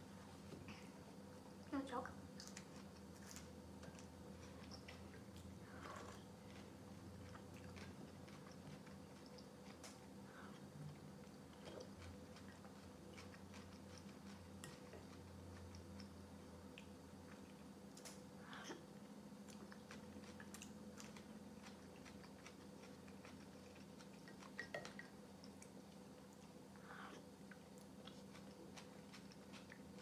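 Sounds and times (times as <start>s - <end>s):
low steady hum: 0.0s - 30.0s
chewing and crunching: 1.6s - 30.0s.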